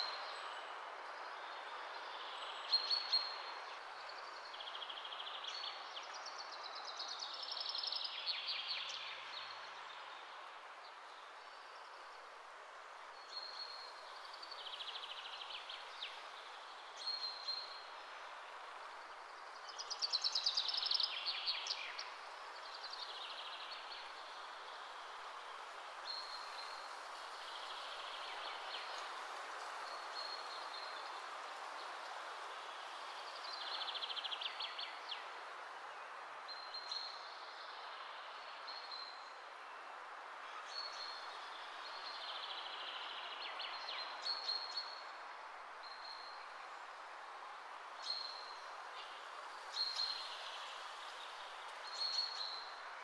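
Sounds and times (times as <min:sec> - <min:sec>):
background hiss: 0:00.0 - 0:53.0.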